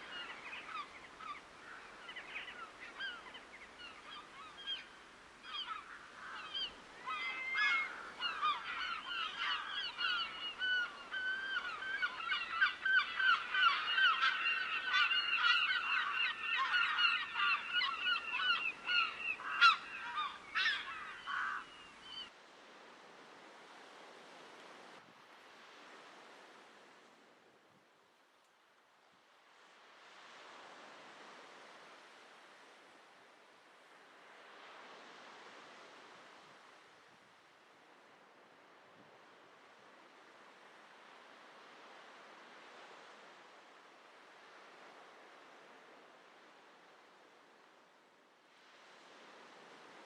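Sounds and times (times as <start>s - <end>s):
soft rush of wind or water: 0.0s - 50.0s.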